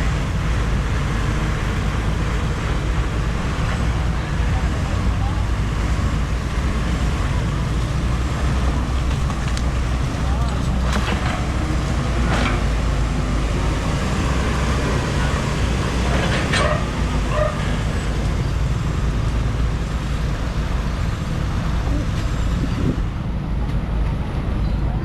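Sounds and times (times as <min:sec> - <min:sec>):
constant rushing noise: 0:00.0 - 0:25.0
diesel engine running: 0:00.0 - 0:25.0.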